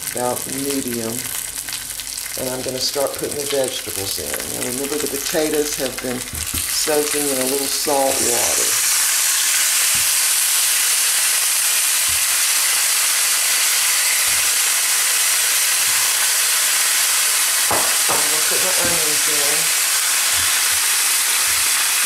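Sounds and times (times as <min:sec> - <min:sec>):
oil sizzling in a skillet: 0:00.0 - 0:22.0.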